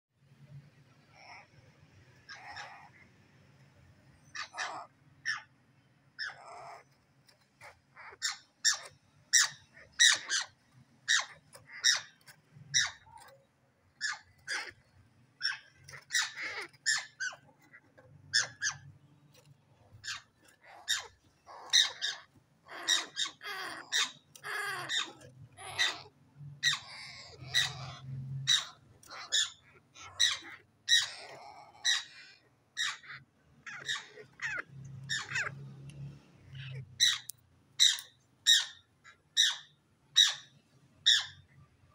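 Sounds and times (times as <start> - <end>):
parrot chicks squawking: 0.5 - 41.9.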